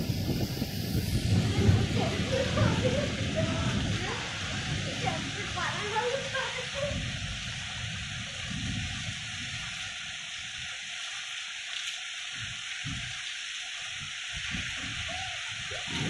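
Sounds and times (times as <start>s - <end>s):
wind rumbling on microphone: 0.0s - 10.9s, 12.3s - 16.0s
heavy rain pouring: 0.0s - 16.0s.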